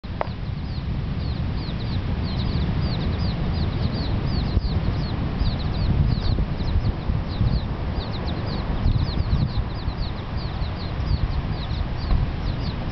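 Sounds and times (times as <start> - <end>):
steady low rumble: 0.0 - 12.9
chicks peeping: 0.1 - 12.9.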